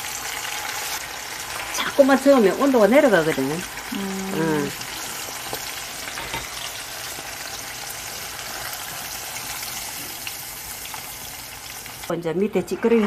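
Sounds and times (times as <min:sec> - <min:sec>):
oil sizzling deep-frying: 0:00.0 - 0:13.0.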